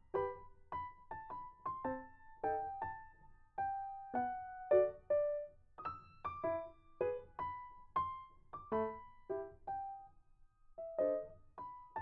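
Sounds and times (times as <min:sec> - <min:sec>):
piano music: 0:00.0 - 0:10.1, 0:10.8 - 0:12.0.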